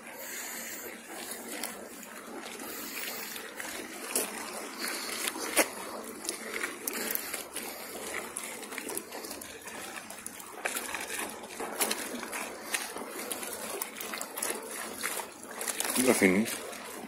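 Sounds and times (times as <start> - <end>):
waves lapping on rocky shore: 0.0 - 17.0.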